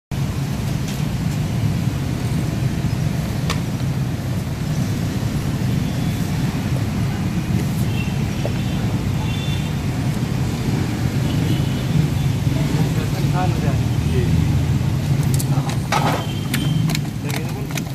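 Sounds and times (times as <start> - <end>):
street rumble: 0.1 - 17.9.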